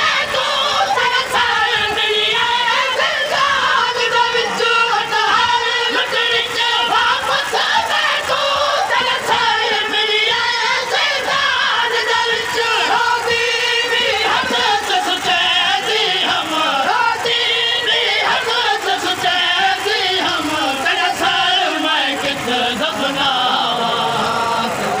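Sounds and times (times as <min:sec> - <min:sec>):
men chanting a lament: 0:00.0 - 0:25.0.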